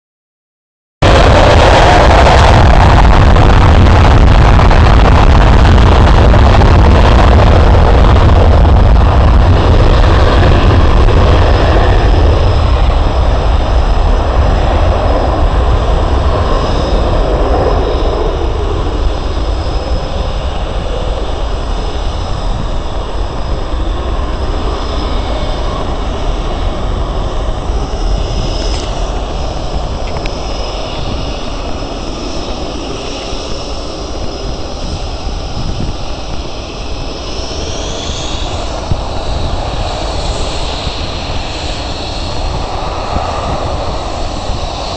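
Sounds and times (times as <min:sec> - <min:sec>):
fighter jet taking off: 0:01.0 - 0:44.9
high jet whine: 0:01.0 - 0:44.9.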